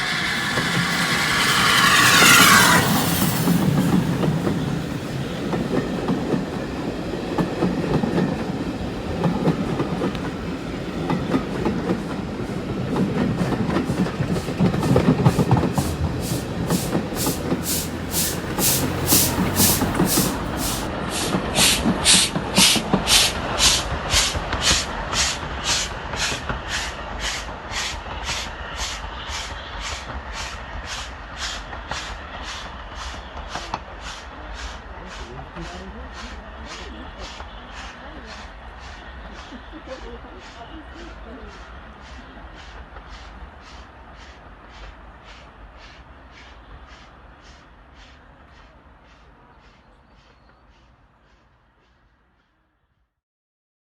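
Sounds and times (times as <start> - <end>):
steam locomotive beats: 0.0 - 51.3
steam train rumble: 0.0 - 52.1.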